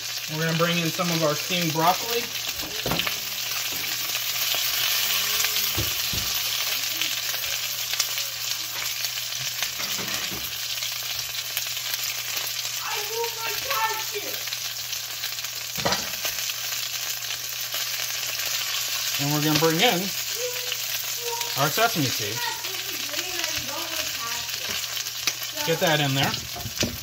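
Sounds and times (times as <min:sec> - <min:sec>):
food sizzling in oil: 0:00.0 - 0:27.0.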